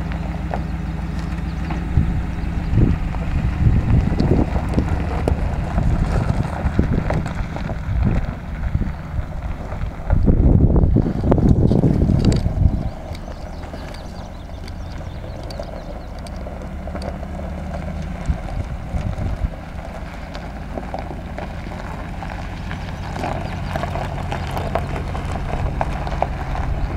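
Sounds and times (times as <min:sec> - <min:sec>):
truck engine running: 0:00.0 - 0:26.9
tyres crunching on gravel: 0:00.0 - 0:26.9.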